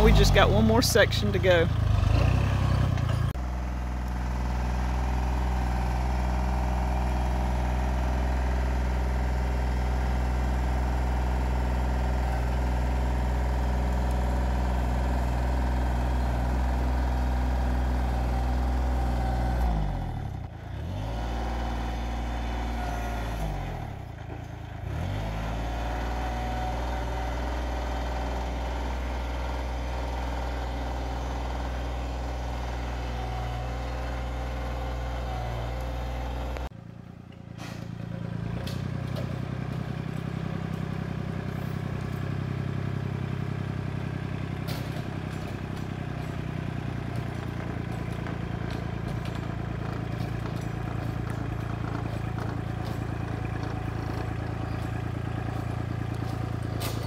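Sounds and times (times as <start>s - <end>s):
front loader pushing brush: 0.0s - 57.0s
tractor diesel engine running: 0.0s - 57.0s.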